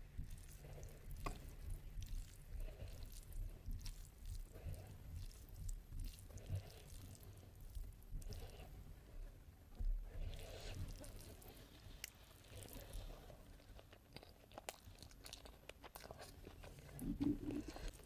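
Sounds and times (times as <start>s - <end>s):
chewing: 0.0s - 8.8s, 10.2s - 18.0s
squish of rice handled with fingers: 0.0s - 9.2s, 10.1s - 18.0s.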